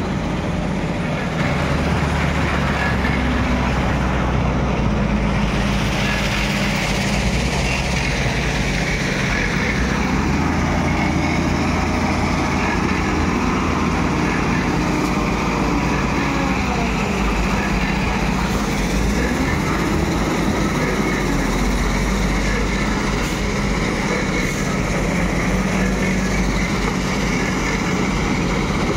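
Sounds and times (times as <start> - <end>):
wheel loader diesel engine running: 0.0 - 28.9.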